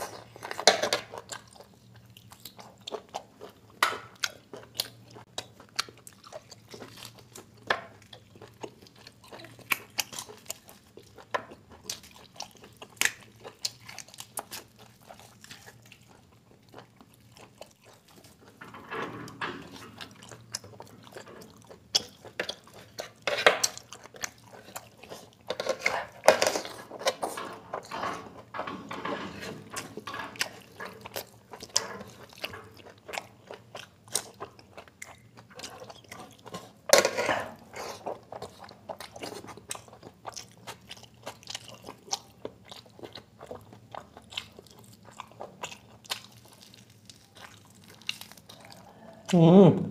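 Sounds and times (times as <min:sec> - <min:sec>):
chewing and biting food: 0:00.0 - 0:18.7, 0:19.4 - 0:49.4.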